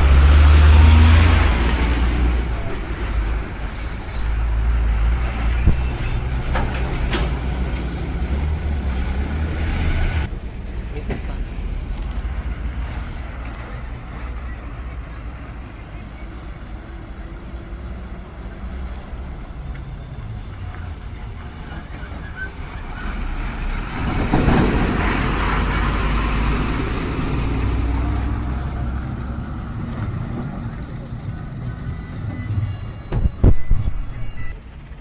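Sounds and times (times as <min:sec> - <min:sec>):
rush of engine and road noise: 0:00.0 - 0:35.0
truck engine rumble: 0:00.0 - 0:35.0.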